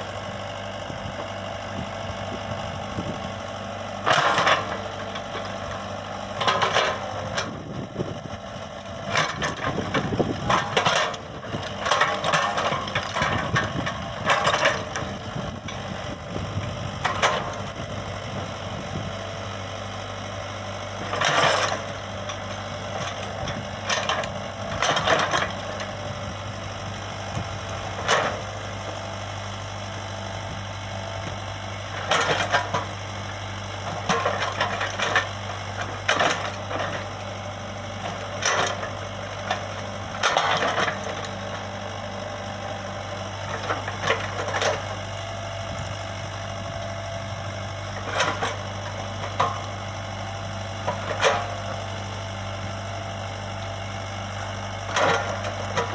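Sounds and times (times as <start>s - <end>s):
excavator diesel engine running: 0.0s - 55.9s
sharp bursts of working noise: 1.1s - 55.9s.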